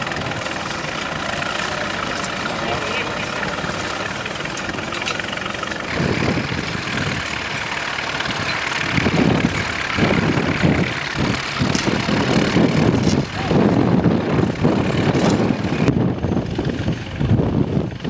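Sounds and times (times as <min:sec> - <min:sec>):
tractor engine running: 0:00.0 - 0:18.0
wind buffeting microphone: 0:00.0 - 0:18.0.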